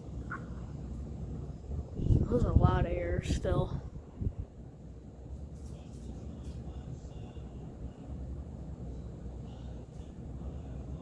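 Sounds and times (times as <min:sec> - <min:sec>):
ceiling fan whooshing: 0:00.0 - 0:11.0.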